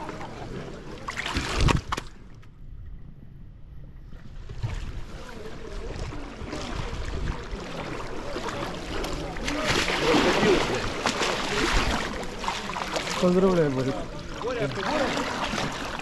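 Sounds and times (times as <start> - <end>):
river water: 0.0 - 16.0.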